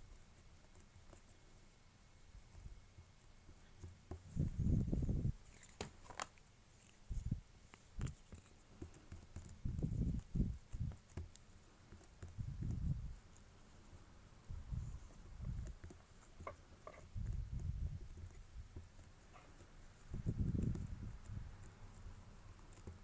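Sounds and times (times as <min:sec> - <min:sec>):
clay thumping and rubbing by hand: 0:00.0 - 0:23.0.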